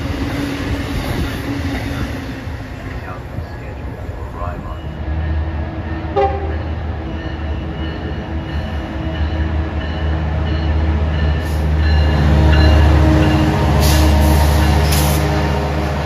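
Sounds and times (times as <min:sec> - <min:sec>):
diesel locomotive engine rumble: 0:00.0 - 0:16.0
train wheels on rail: 0:00.0 - 0:16.0.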